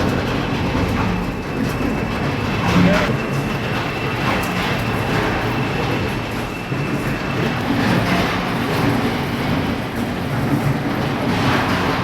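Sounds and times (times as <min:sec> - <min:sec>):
heavy machinery rumbling and rattling: 0:00.0 - 0:12.0.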